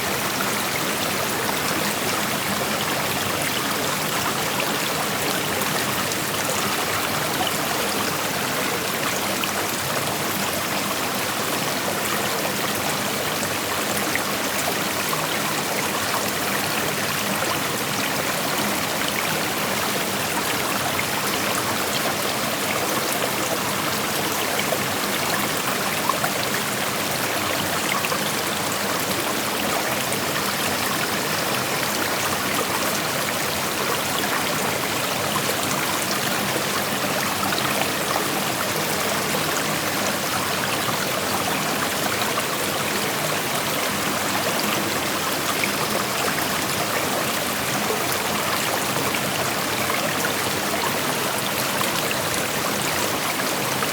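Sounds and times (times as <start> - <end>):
creek water rushing over rocks: 0.0 - 53.9.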